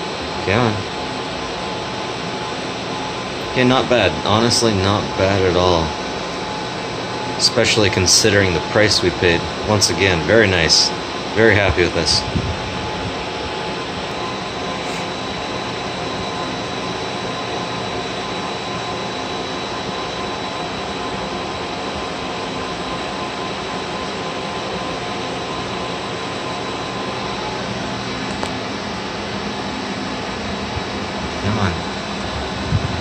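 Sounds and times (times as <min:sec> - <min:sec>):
fan whirring: 0:00.0 - 0:33.0.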